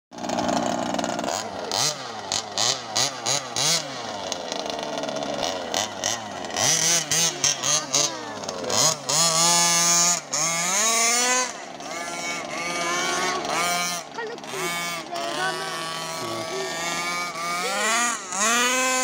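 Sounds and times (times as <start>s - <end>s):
two-stroke engine revving: 0.1s - 19.0s.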